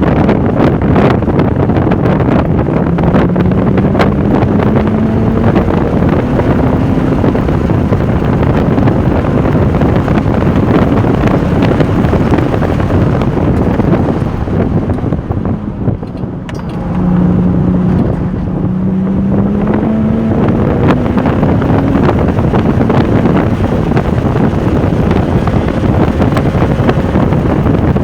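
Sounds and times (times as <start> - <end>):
car engine at speed: 0.0 - 28.0
wind noise on microphone: 0.0 - 28.0.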